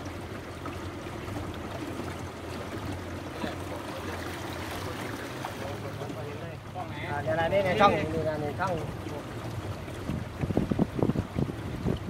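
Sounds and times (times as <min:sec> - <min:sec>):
water lapping and trickling: 0:00.0 - 0:12.0.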